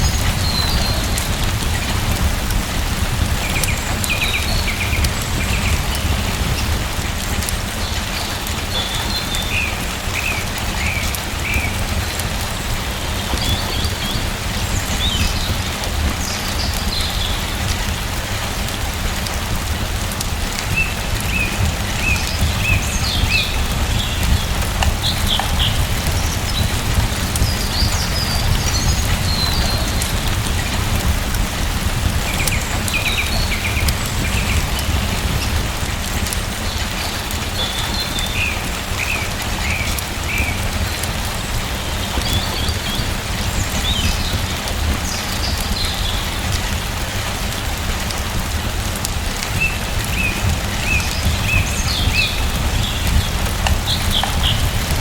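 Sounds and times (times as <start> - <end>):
small birds chirping: 0.0 - 19.4, 20.0 - 47.2, 49.4 - 55.0
steady rain: 0.0 - 55.0.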